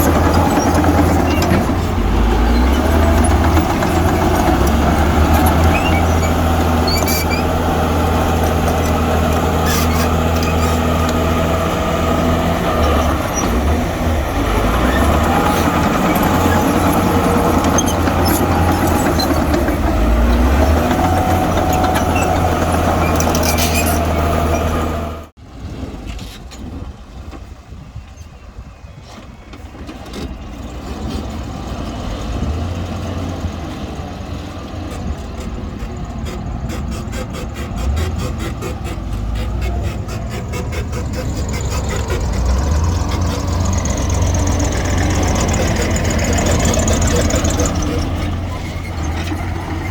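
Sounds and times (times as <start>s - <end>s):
diesel engine running: 0.0s - 25.4s, 30.2s - 49.9s.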